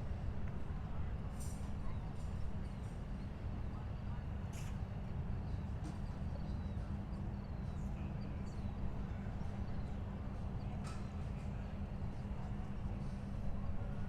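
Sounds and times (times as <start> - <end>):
distant traffic and boats rumble: 0.0 - 14.0.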